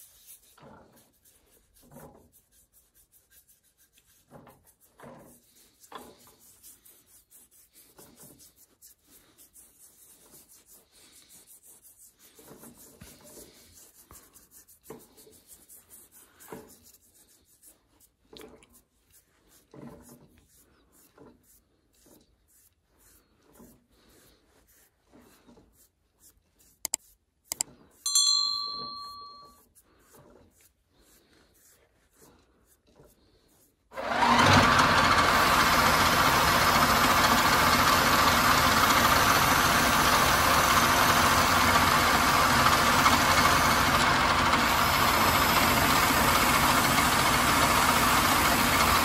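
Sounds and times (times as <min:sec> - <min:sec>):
brush rubbing on wooden bowl: 0:00.0 - 0:33.9, 0:35.0 - 0:49.0.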